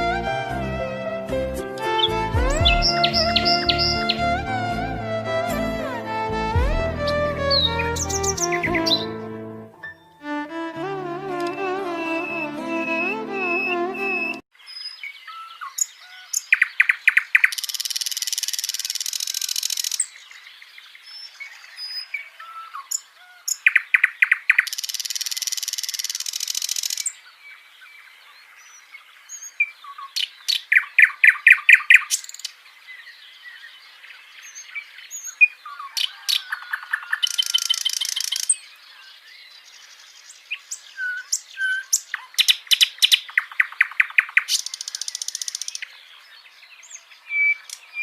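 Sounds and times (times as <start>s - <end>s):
birds singing and calling: 1.9s - 4.4s, 7.5s - 9.2s, 11.5s - 48.0s.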